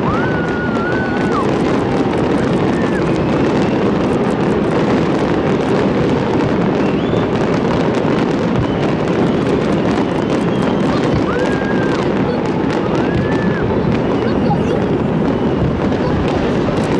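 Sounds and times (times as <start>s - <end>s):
firework whistle: 0.0s - 16.9s
fireworks crackling and rumbling: 0.0s - 16.9s.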